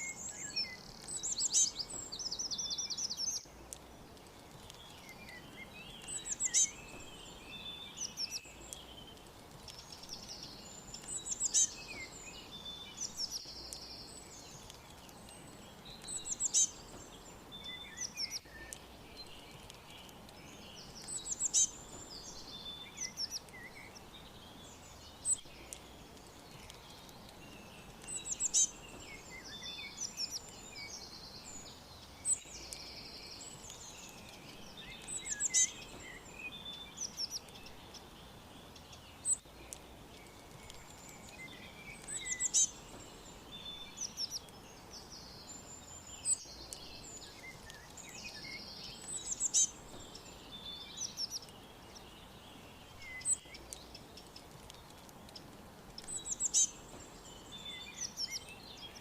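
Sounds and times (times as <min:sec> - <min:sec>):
faint background hiss: 0:00.0 - 0:59.0
songbirds chirping and trilling: 0:00.0 - 0:59.0.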